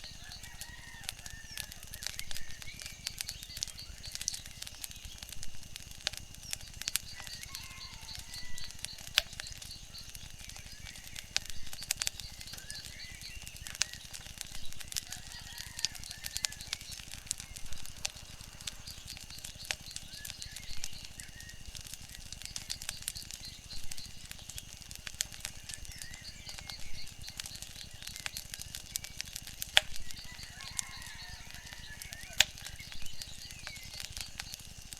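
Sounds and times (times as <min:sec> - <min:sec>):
faint bird chirps and trills: 0:00.0 - 0:34.9
wood fire crackling and popping: 0:00.0 - 0:34.9.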